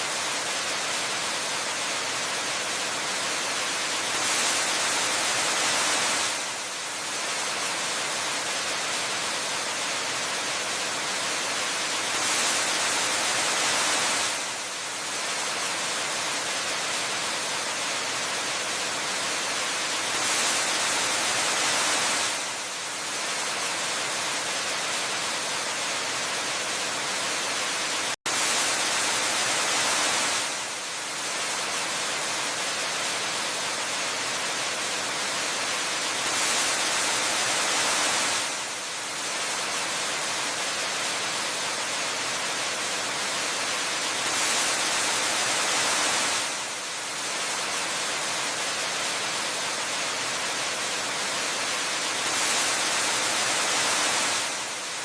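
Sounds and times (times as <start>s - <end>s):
waterfall cascading into pool: 0.0s - 55.0s.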